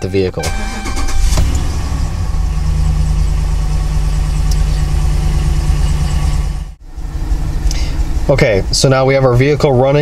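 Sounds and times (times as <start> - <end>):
engine idling: 0.4 - 9.9.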